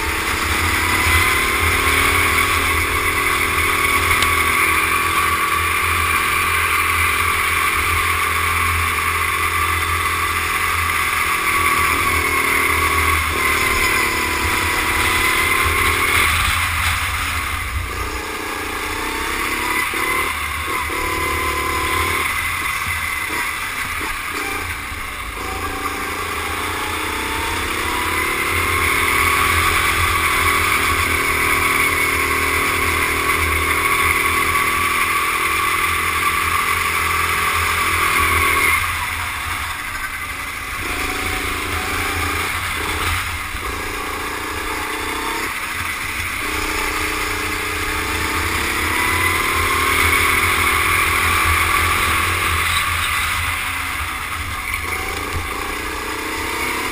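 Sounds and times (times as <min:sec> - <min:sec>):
go-kart engine at high revs: 0:00.0 - 0:56.9.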